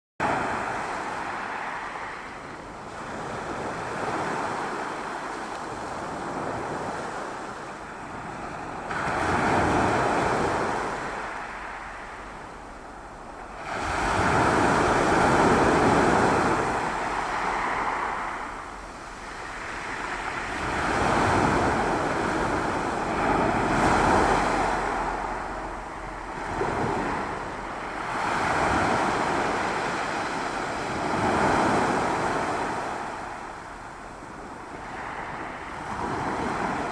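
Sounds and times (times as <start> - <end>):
waves breaking and washing in: 0.2 - 36.9.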